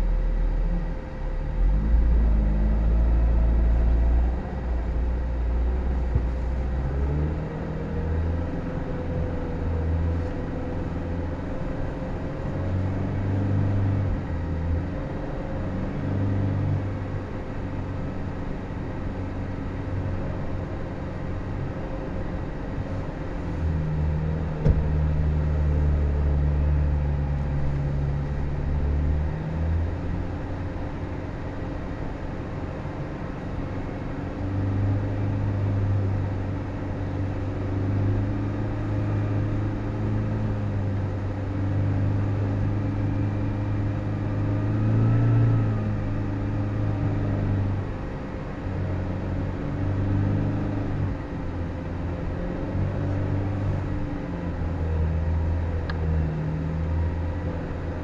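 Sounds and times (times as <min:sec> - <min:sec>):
vehicle engine at low revs: 0:00.0 - 0:58.0.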